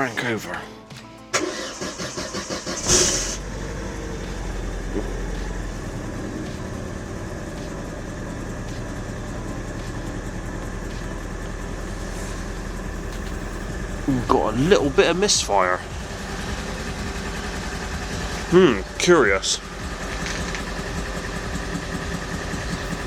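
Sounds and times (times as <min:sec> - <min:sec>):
car engine revving and idling: 0:01.3 - 0:23.0
starter motor cranking: 0:01.3 - 0:23.0.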